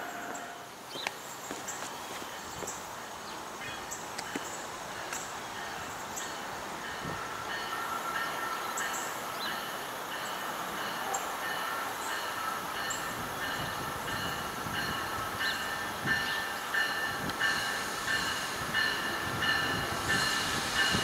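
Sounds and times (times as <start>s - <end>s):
train rail rumble: 4.2s - 21.0s.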